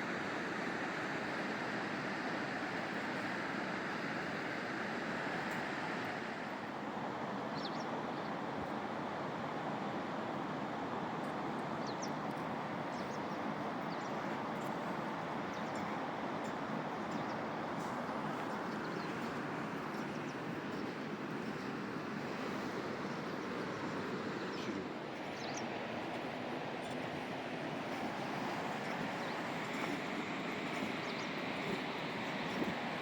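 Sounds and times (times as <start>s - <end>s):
flowing river water: 0.0s - 33.0s.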